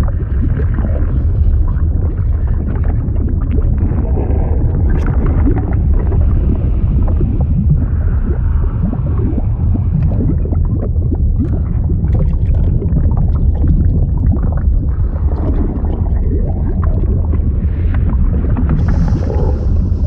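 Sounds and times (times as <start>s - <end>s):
deep steady rumble: 0.0s - 20.0s
liquid bubbling and gurgling: 0.0s - 20.0s.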